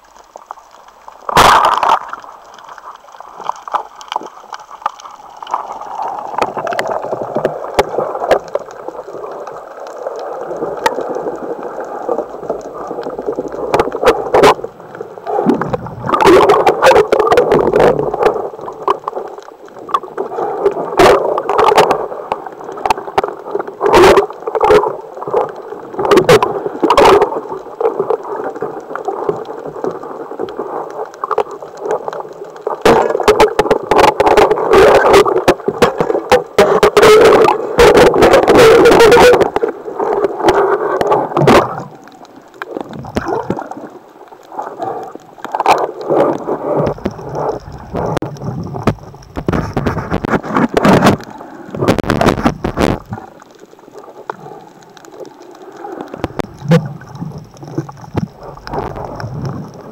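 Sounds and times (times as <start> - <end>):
underwater water rushing and sloshing: 0.0 - 59.9.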